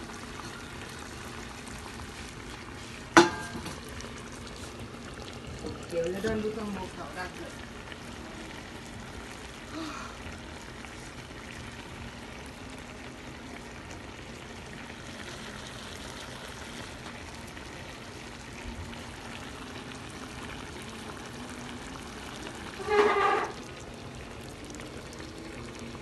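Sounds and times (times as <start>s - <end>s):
soup simmering and bubbling: 0.0s - 26.0s.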